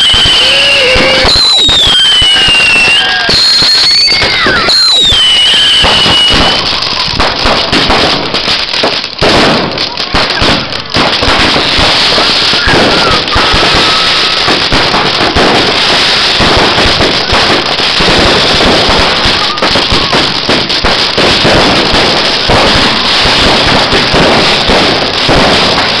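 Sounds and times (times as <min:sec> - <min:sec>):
fireworks crackling and banging: 0:00.0 - 0:26.0
whistling firework: 0:00.0 - 0:26.0.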